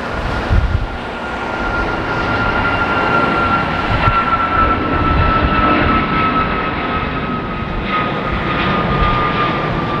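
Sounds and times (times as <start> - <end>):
jet engine low rumble: 0.0 - 10.0
jet engine whine: 0.0 - 10.0.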